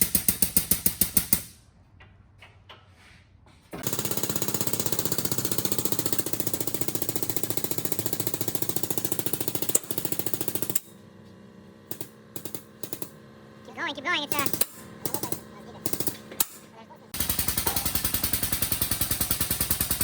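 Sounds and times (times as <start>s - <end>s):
pneumatic tool hammering: 0.0s - 1.6s, 3.8s - 13.5s, 14.3s - 20.0s.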